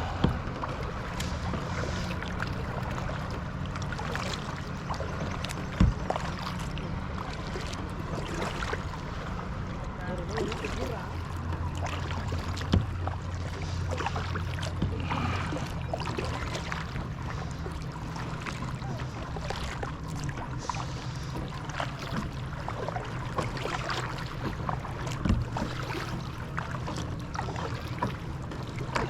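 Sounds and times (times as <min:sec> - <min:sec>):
low steady hum: 0:00.0 - 0:29.0
paddle strokes splashing water: 0:00.0 - 0:29.0
water lapping at hull: 0:00.0 - 0:29.0.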